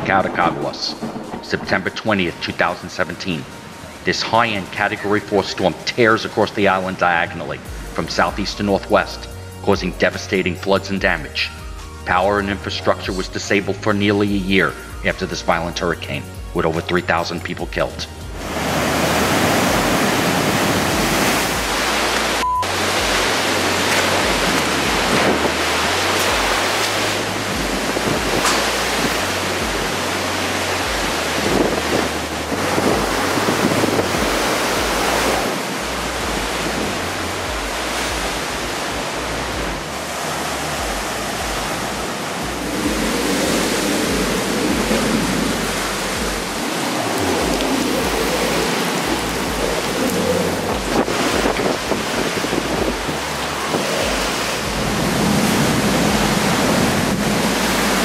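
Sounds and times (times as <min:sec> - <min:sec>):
heavy surf breaking: 0:00.0 - 0:09.2, 0:17.8 - 0:58.0
hurricane wind and rain rushing: 0:00.0 - 0:14.9, 0:15.6 - 0:58.0.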